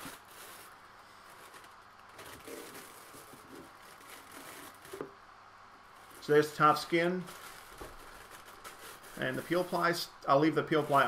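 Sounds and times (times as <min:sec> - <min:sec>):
plastic bag rustling and crinkling: 0:00.0 - 0:05.2, 0:05.9 - 0:11.0.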